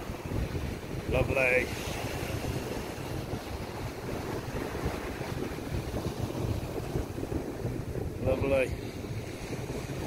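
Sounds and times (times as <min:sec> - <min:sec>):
sea washing on shore: 0:00.0 - 0:10.0
wind buffeting microphone: 0:00.0 - 0:10.0.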